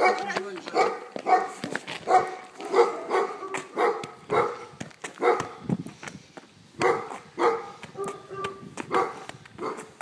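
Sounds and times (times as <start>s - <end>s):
dog barking: 0.0s - 5.6s, 6.8s - 9.9s.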